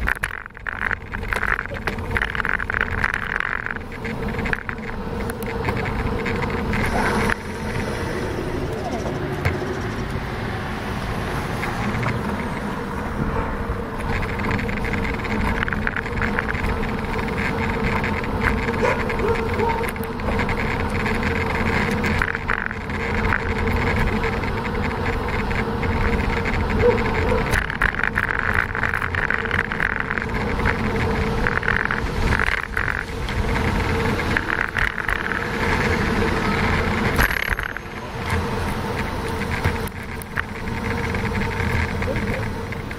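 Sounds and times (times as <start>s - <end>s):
tyre noise on asphalt: 0.0s - 42.9s
wind rumbling on microphone: 0.0s - 42.9s.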